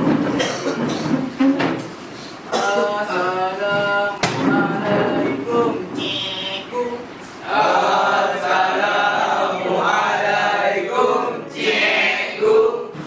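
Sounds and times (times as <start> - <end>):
male voices chanting in unison: 2.5 - 13.0.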